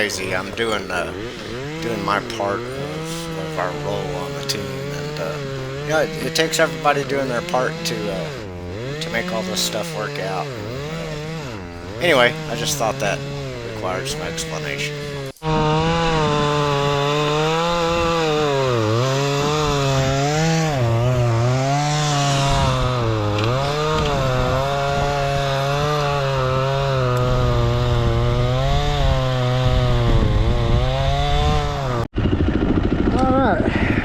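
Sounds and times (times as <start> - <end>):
chainsaw cutting wood: 0.0 - 33.2.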